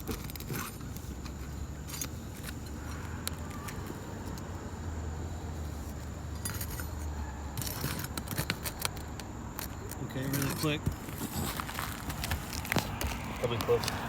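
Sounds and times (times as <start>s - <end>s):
metal clicks and scrapes: 0.0s - 4.5s, 6.0s - 14.0s.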